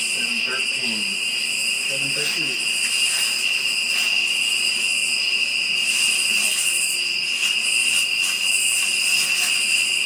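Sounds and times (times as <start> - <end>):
crickets trilling: 0.0 - 10.0
high-pitched insect buzzing: 0.0 - 10.0.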